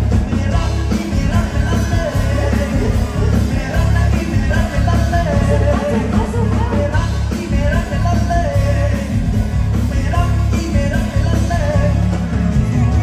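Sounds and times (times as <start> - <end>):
heavy steady bass: 0.0 - 13.0
live band music: 0.0 - 13.0
person singing: 0.0 - 13.0.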